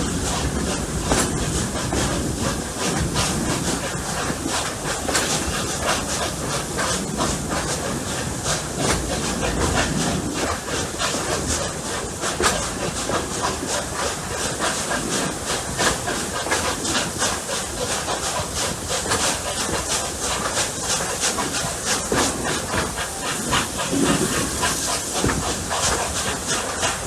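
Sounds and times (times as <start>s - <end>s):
steam hiss: 0.0s - 27.0s
steam locomotive exhaust chuffs: 0.0s - 27.0s.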